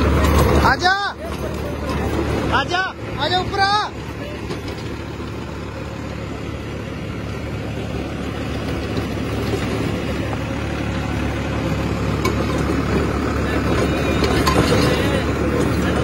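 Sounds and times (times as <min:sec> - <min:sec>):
blades churning dry soil: 0:00.0 - 0:16.0
tractor diesel engine under load: 0:00.0 - 0:16.0.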